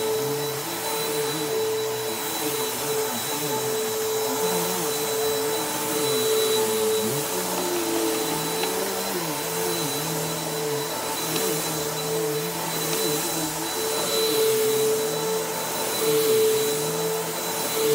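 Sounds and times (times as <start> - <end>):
upright vacuum cleaner running: 0.0 - 17.9.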